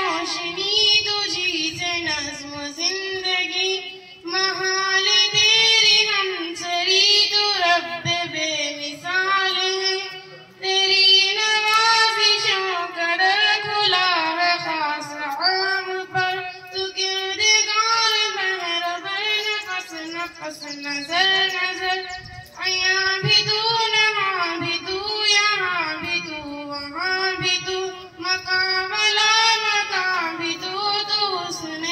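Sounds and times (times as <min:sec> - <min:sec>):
girl singing into a microphone: 0:00.0 - 0:31.9.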